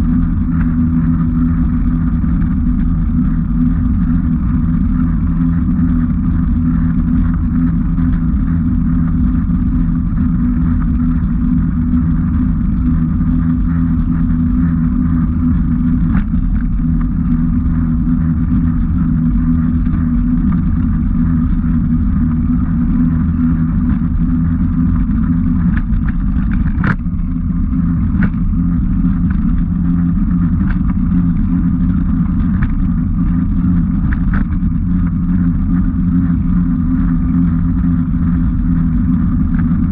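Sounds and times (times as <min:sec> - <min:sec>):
riding rumble on rough path: 0:00.0 - 0:39.9.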